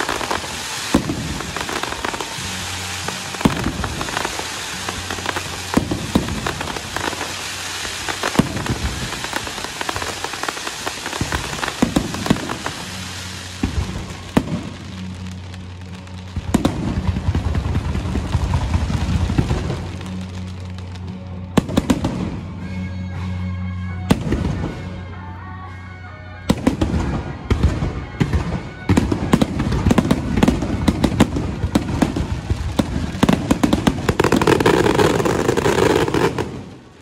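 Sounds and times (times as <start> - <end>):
fireworks bangs: 0.0 - 22.6, 26.5 - 37.0
fireworks crackling: 0.0 - 23.4, 24.0 - 25.4, 26.4 - 37.0.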